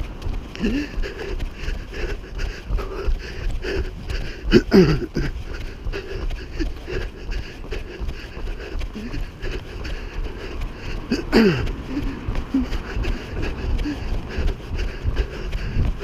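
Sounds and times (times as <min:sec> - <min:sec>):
running footsteps thudding: 0:00.0 - 0:16.0
wind buffeting microphone: 0:00.0 - 0:16.0.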